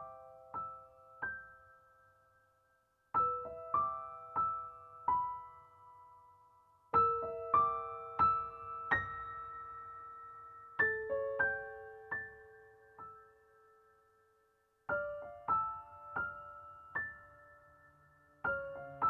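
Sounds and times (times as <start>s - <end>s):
slow gentle piano: 0.0s - 19.0s.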